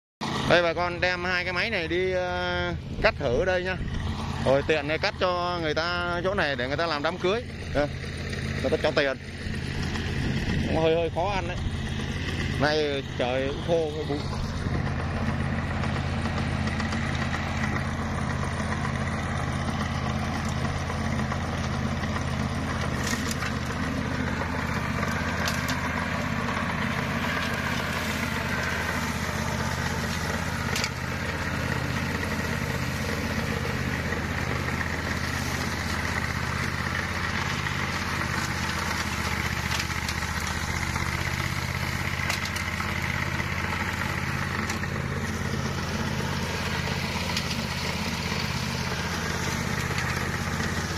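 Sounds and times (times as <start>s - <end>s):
mower engine cutting grass: 0.2s - 50.9s.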